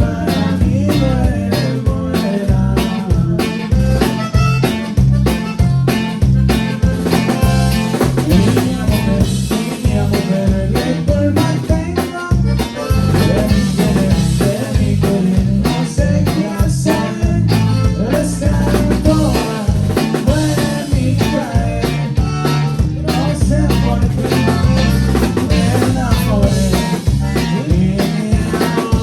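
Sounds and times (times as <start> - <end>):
person singing: 0.0 - 4.2, 6.8 - 29.0
band playing live: 0.0 - 29.0
bass guitar: 0.0 - 29.0
drum kit beat: 0.0 - 29.0.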